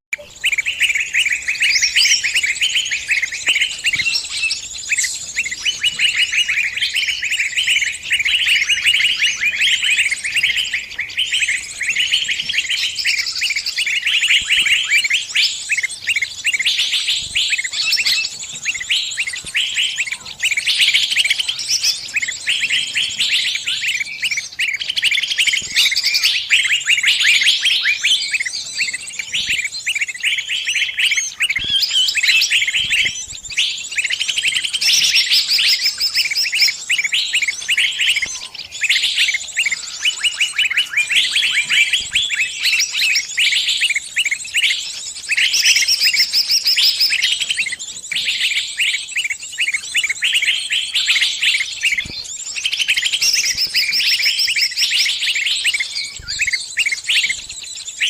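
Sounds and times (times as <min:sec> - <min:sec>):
small bird chirping rapidly: 0:00.1 - 0:58.0.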